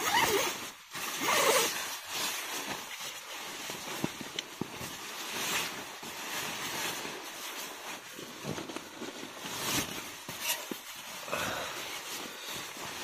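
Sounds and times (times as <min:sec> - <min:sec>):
tent fabric rustling: 0:00.0 - 0:13.0.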